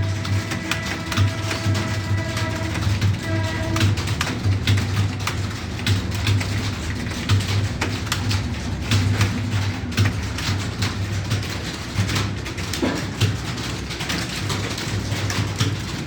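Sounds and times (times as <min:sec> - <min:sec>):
computer keyboard typing: 0:00.0 - 0:16.0.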